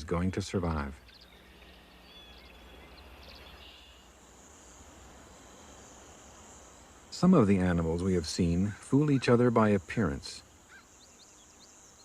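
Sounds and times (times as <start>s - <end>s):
faint chirps: 0.0s - 12.0s
high-pitched insect trill: 0.0s - 12.0s.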